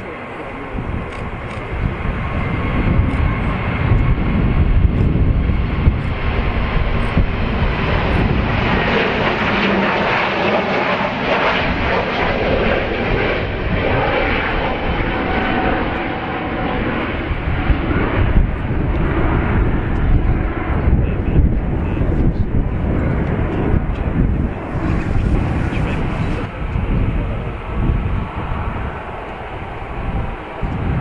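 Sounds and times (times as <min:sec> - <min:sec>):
jet airliner passing: 0:00.0 - 0:31.0.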